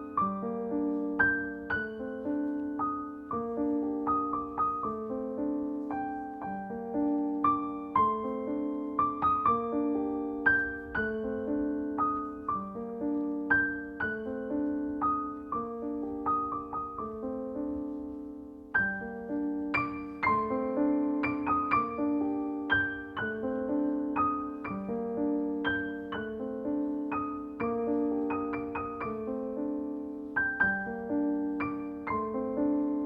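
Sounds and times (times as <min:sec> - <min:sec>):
gentle solo piano: 0:00.0 - 0:33.0.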